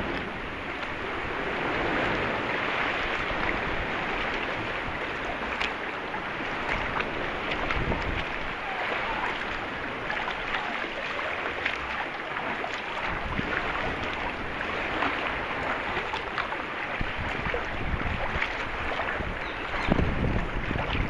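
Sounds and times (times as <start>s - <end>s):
paddle strokes splashing: 0.0s - 21.0s
water sloshing: 0.0s - 21.0s
wind buffeting microphone: 0.0s - 21.0s.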